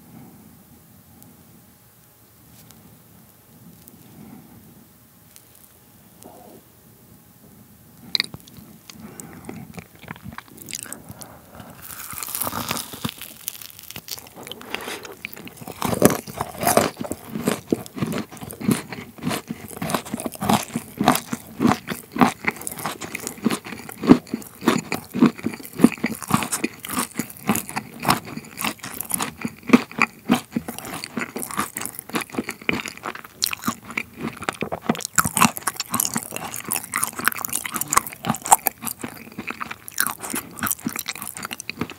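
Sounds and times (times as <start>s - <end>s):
crunching and chewing chocolate: 8.0s - 41.9s.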